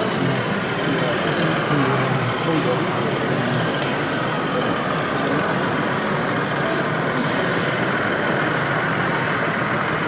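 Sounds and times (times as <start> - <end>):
crowded hall din: 0.0 - 10.0.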